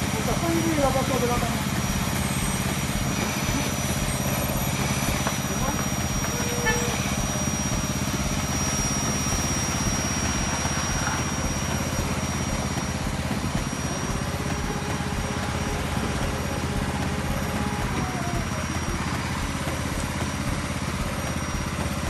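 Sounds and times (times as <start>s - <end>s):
high whine: 0.0s - 22.0s
small engine running: 0.0s - 22.0s.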